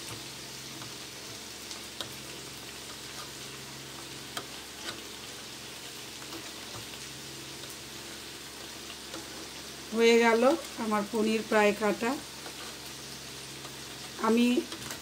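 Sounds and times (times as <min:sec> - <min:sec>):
onions sizzling in a pan: 0:00.0 - 0:15.0.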